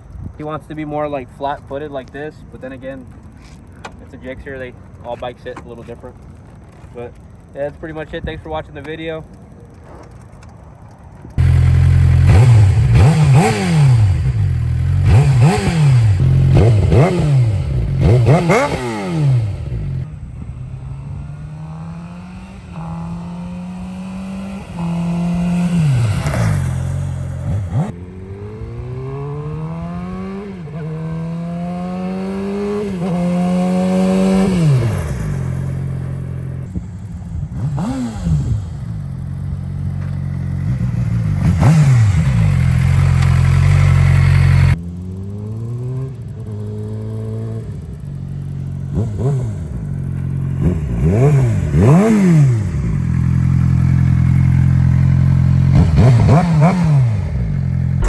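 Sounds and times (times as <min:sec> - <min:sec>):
motorcycle engine revving: 0:11.3 - 0:58.0.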